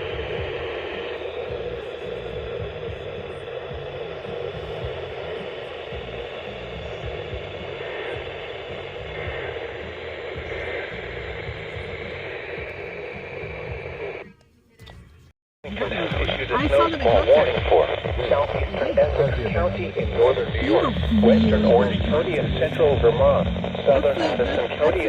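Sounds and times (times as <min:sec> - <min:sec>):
radio static hiss: 0:00.0 - 0:14.3, 0:15.6 - 0:25.0.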